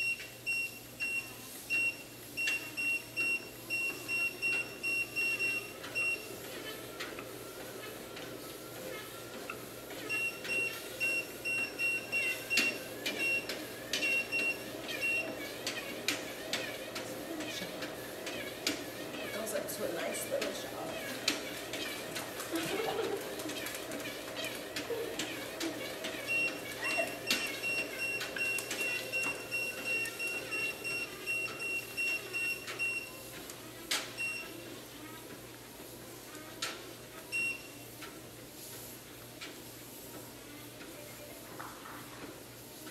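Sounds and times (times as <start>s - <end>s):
footsteps on treadmill belt: 1.8s - 42.9s.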